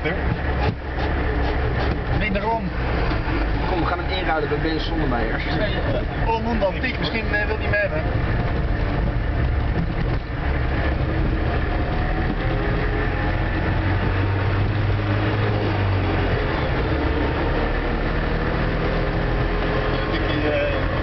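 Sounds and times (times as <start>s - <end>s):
car engine and road noise drone: 0.0s - 21.0s.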